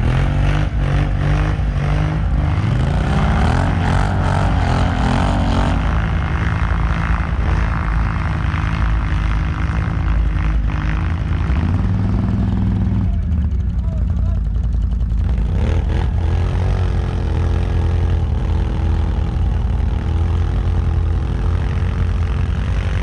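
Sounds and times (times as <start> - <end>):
quad bike engine revving: 0.0 - 23.0.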